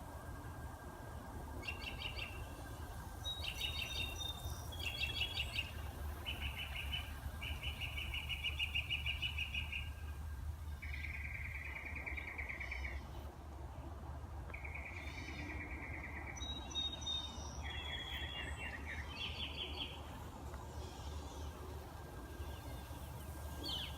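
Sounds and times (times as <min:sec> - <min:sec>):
songbird trills: 0:01.6 - 0:13.3, 0:14.5 - 0:23.9.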